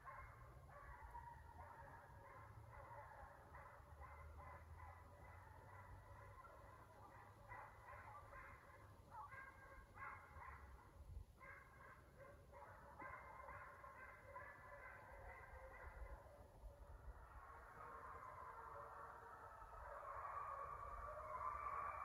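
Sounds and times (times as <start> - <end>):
hounds baying faintly: 0.0 - 22.0.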